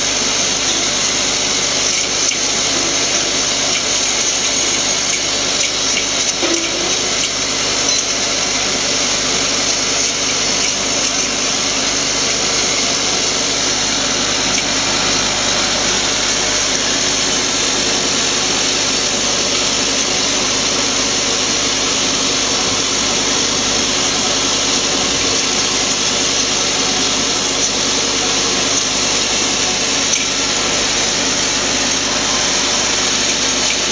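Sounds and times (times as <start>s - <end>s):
vibratory bowl feeder running: 0.0s - 33.9s.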